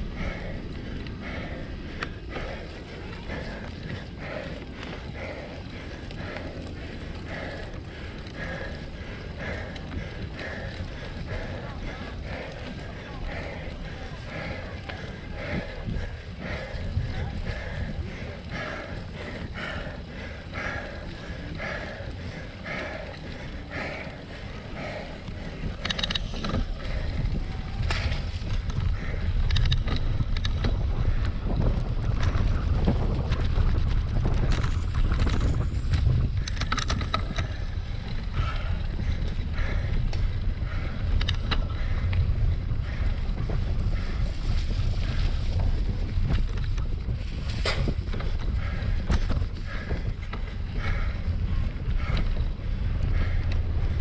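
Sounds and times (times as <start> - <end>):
bike clicks and rattles: 0.0 - 54.0
wind rumbling on microphone: 0.0 - 54.0.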